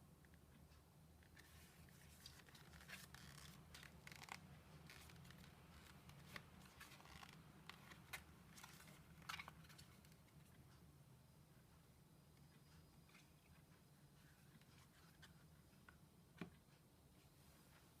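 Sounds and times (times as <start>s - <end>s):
low steady hum: 0.0s - 18.0s
soft handling rustling: 1.2s - 10.9s, 11.6s - 18.0s.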